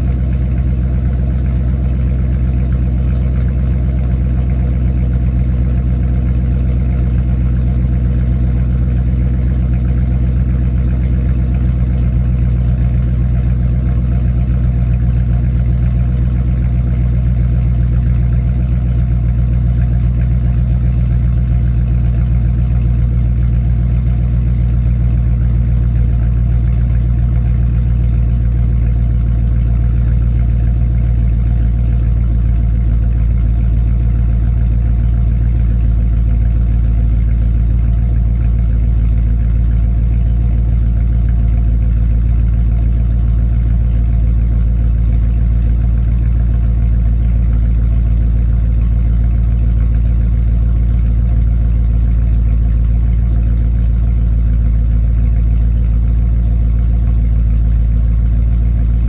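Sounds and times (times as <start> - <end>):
car engine idling deep exhaust: 0.0 - 59.0.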